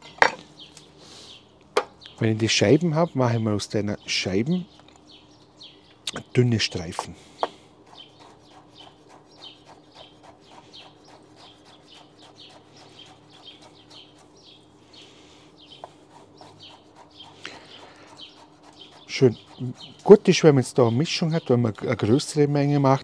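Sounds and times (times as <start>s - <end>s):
faint steady hum: 0.0s - 23.0s
small birds chirping: 0.0s - 23.0s.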